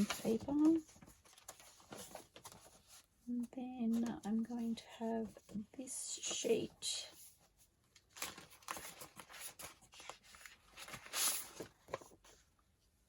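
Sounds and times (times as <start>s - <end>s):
paper rustling and shuffling: 0.0s - 12.9s.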